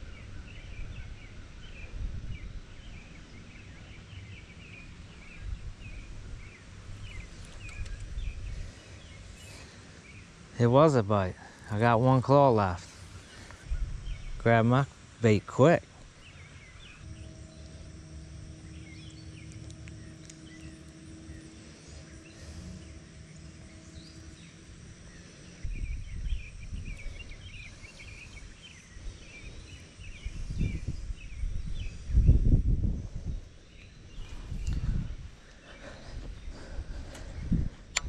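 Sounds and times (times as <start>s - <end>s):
low rumbles on microphone: 0.0s - 9.4s, 13.3s - 38.0s
birds chirping: 0.0s - 38.0s
steady low hum: 0.0s - 38.0s.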